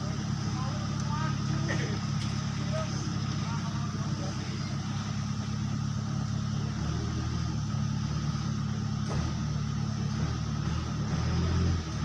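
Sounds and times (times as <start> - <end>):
crane engine humming: 0.0 - 12.0.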